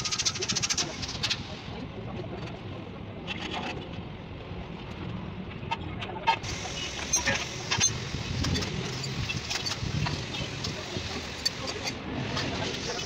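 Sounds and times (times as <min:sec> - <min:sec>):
steady low rumble: 0:00.8 - 0:13.0.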